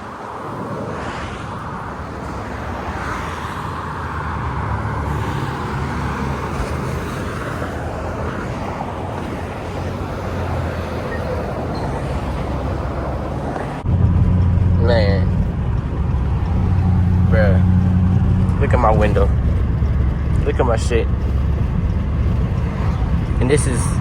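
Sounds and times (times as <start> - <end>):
tyre and road noise: 0.0 - 24.0
low engine hum: 0.3 - 24.0.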